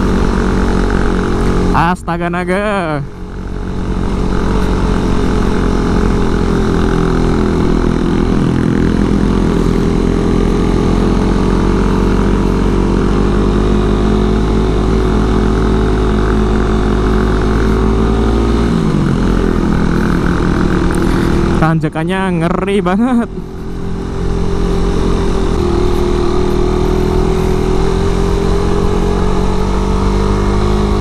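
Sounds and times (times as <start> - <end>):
motorcycle engine pulling under load: 3.4 - 21.7, 23.0 - 31.0.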